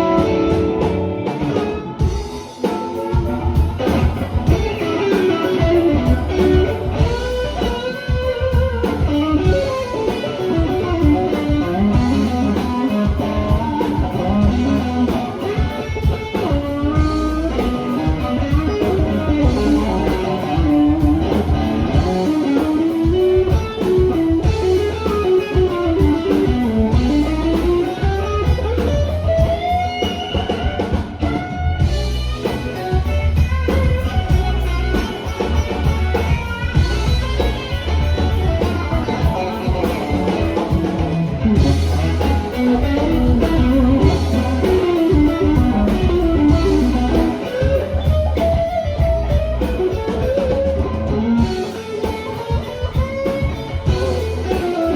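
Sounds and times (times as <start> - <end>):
bending electric guitar lead: 0.0 - 54.9
live blues band: 0.0 - 54.9.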